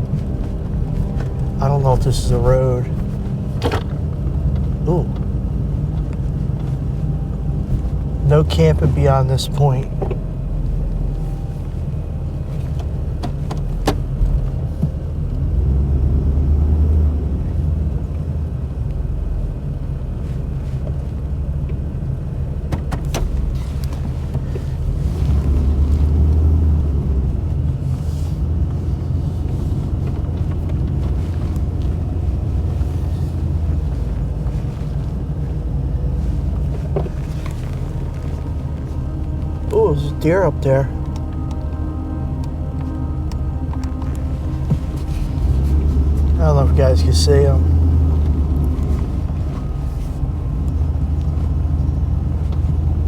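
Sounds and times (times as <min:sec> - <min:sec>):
truck engine and tyre rumble: 0:00.0 - 0:53.0.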